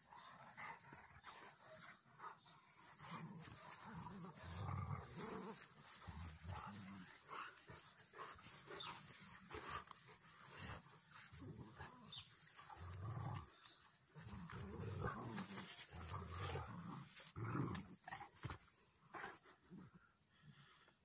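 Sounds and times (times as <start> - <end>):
dogs panting: 0.0 - 17.3
dogs growling: 0.0 - 20.1.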